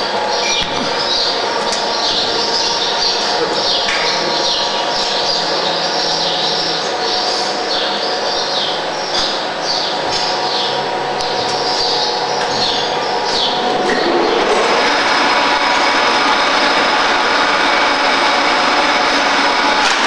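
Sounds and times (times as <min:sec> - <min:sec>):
concrete mixer humming: 0:00.0 - 0:20.0.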